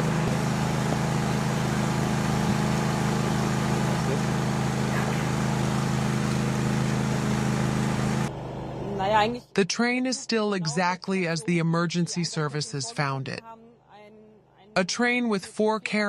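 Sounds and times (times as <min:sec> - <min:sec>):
low engine drone: 0:00.0 - 0:13.4.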